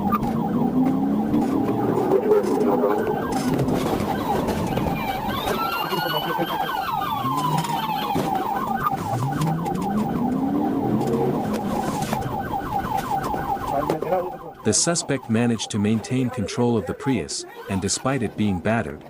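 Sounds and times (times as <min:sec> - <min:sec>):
police siren yelping: 0:00.0 - 0:18.9
police siren wailing: 0:00.0 - 0:19.0.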